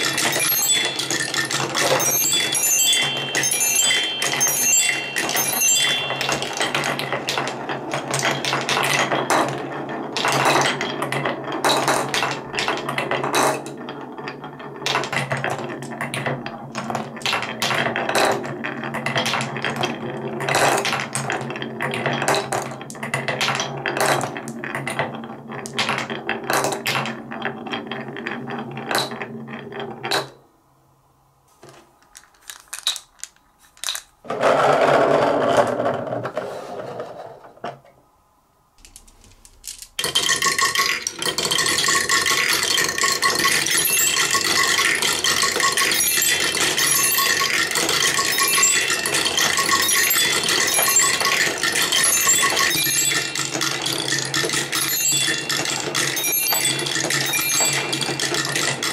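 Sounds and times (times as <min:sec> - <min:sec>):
marbles clacking on wood: 0:00.0 - 0:30.4, 0:32.0 - 0:37.2, 0:38.8 - 0:58.9.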